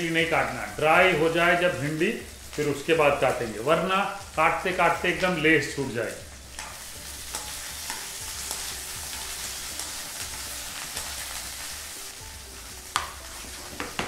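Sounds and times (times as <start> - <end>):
okra sizzling in hot oil: 0.0 - 14.0.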